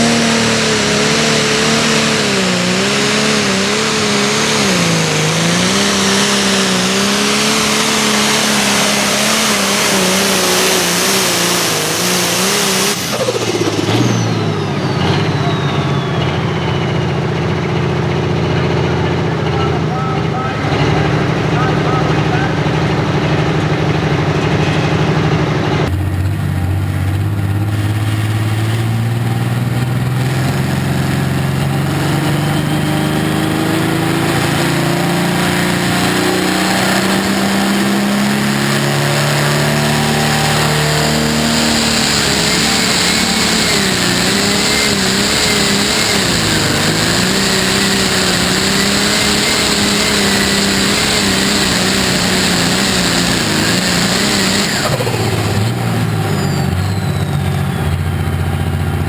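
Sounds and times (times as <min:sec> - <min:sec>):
tractor diesel engine at full throttle: 0:00.0 - 0:59.0.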